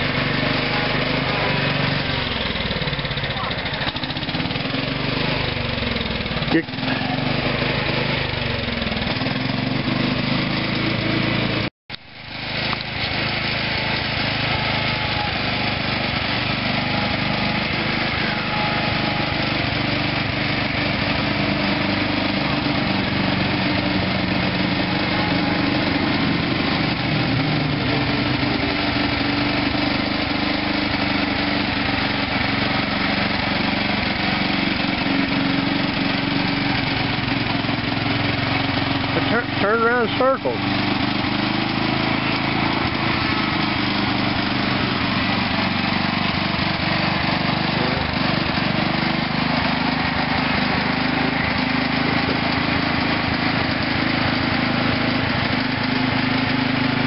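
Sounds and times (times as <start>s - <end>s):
riding mower engine running: 0.0s - 57.0s.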